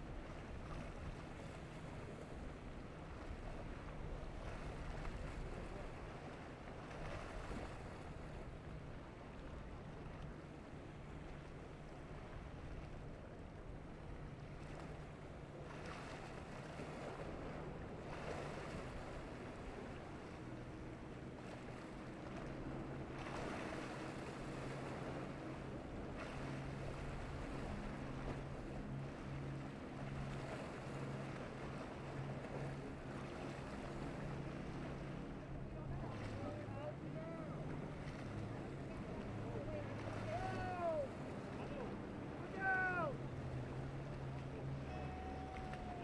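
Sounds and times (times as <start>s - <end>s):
boat engine humming: 0.0s - 46.0s
choppy water: 0.0s - 46.0s
higher engine tone: 1.4s - 46.0s.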